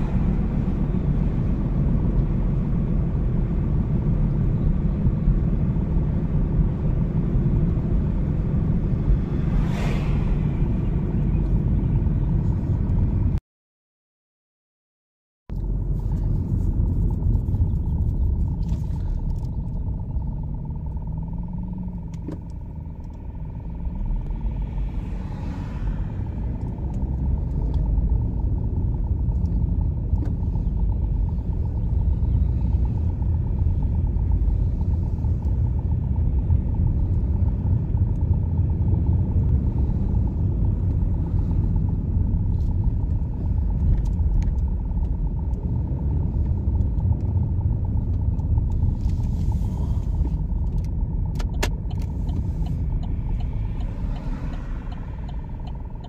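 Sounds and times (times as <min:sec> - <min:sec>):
car engine and tyres rumbling: 0:00.0 - 0:13.4, 0:15.5 - 0:56.0.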